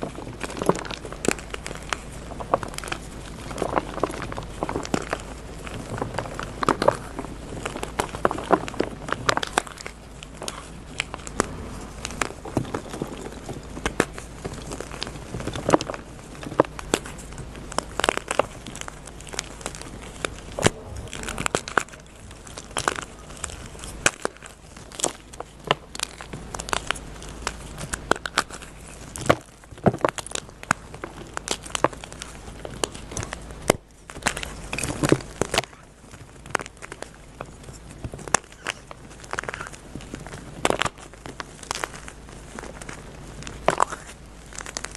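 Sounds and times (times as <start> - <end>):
chalk blocks crunching: 0.0 - 44.9.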